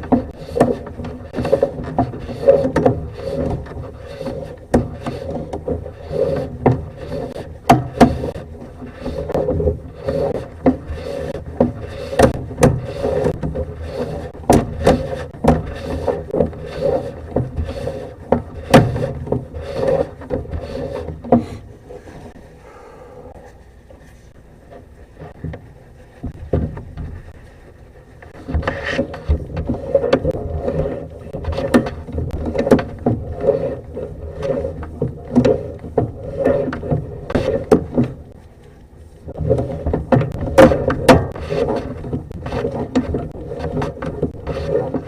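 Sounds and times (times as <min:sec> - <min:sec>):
sharp clicks and knocks: 0:00.0 - 0:22.5, 0:23.8 - 0:27.5, 0:28.2 - 0:45.0
cable rubbing and scraping: 0:00.0 - 0:45.0.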